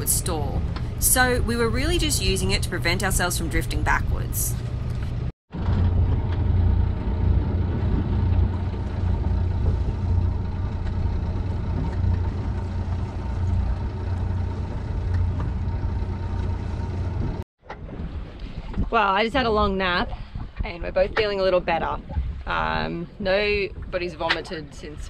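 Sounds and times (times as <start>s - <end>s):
boat engine running slowly: 0.0s - 25.0s.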